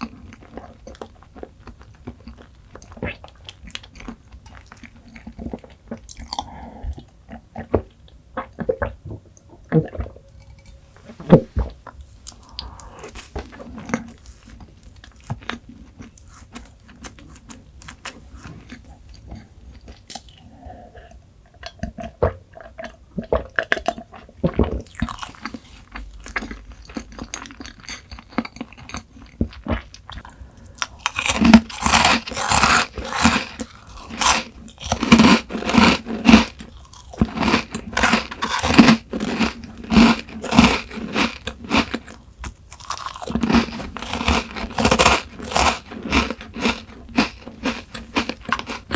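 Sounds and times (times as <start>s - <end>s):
crisp crunching chews: 0.0s - 6.5s, 11.6s - 20.4s, 21.6s - 48.9s.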